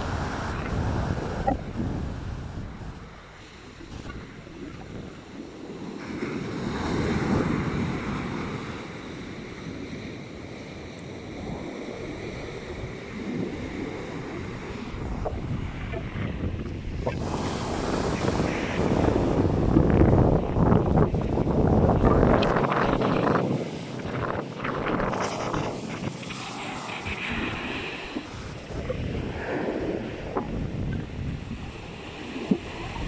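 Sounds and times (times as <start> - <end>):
rough sea surf breaking: 0.0 - 33.0
wind buffeting microphone: 0.0 - 33.0.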